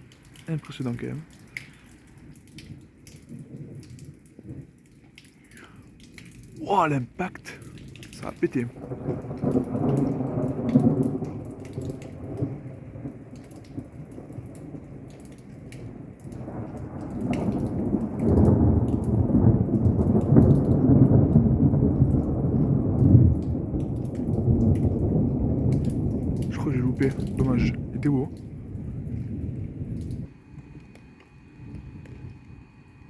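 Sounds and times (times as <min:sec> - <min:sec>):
rain pattering: 0:00.0 - 0:33.0
thunder rumbling: 0:00.0 - 0:33.0.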